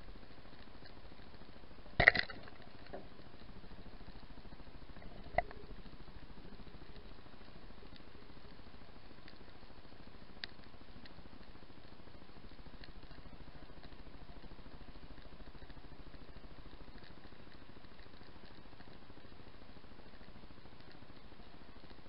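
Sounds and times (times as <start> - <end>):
low pulsing underwater hum: 0.0 - 22.0
faint clicks: 0.4 - 22.0.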